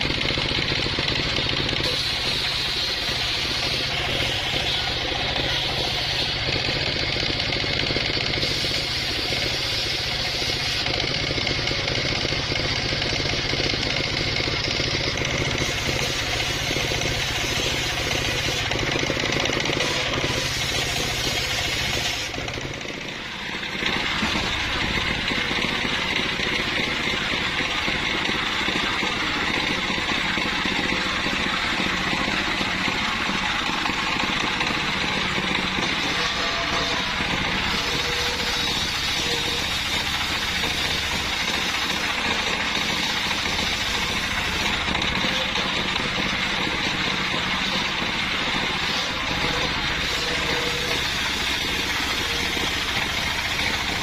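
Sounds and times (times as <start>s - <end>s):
engine drone: 0.0s - 54.0s
sawmill saw cutting wood: 0.0s - 54.0s.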